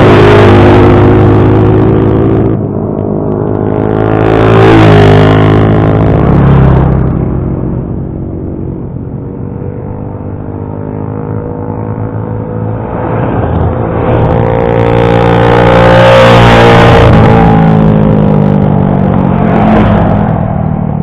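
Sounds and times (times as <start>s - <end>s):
motorcycle approaching and passing: 0.0s - 21.0s
motorcycle riding away: 0.0s - 21.0s.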